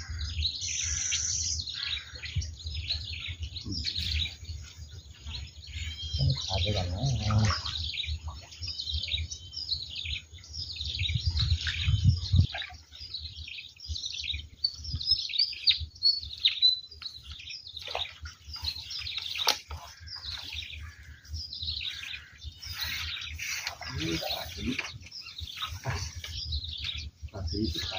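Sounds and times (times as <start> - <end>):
birds chirping and twittering: 0.0 - 27.9.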